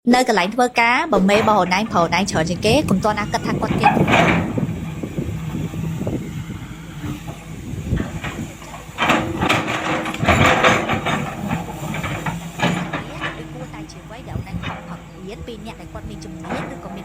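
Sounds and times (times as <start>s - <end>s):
heavy truck engine running: 0.4s - 17.0s
loud noise: 1.1s - 17.0s.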